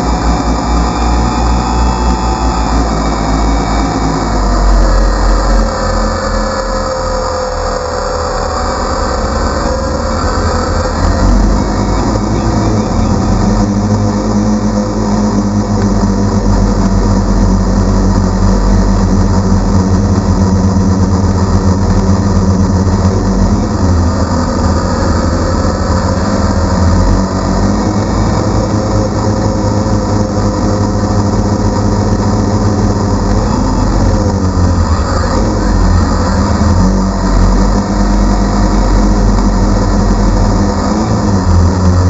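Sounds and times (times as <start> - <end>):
drone propellers buzzing: 0.0 - 42.0.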